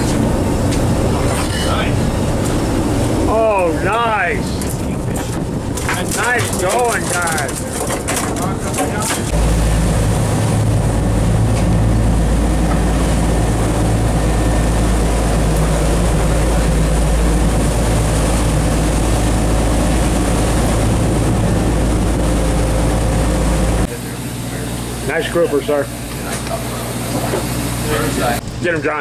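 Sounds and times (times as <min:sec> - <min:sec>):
boat engines running: 0:00.0 - 0:29.0
heavy low rumble: 0:00.0 - 0:29.0.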